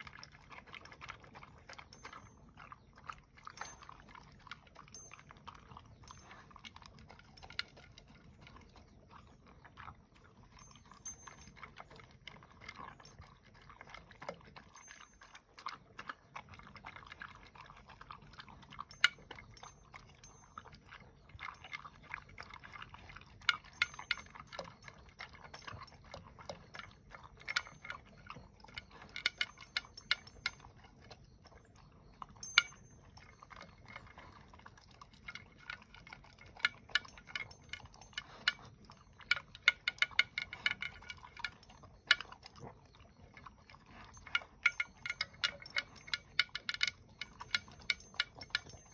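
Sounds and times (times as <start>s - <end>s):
dog chewing: 0.0s - 48.9s.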